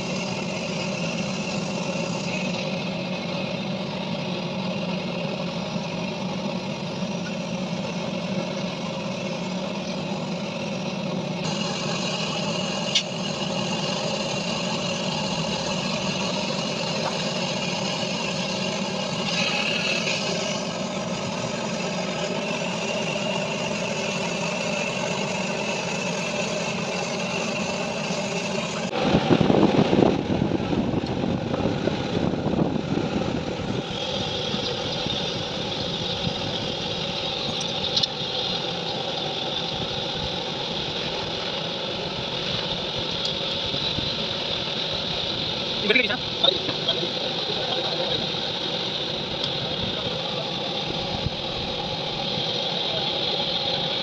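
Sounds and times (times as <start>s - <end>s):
motor running steadily: 0.0s - 54.0s.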